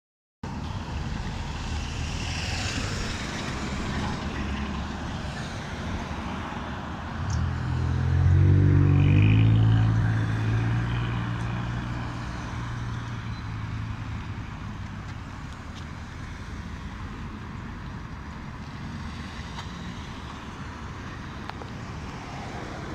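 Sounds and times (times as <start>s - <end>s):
road traffic passing: 0.4s - 22.9s.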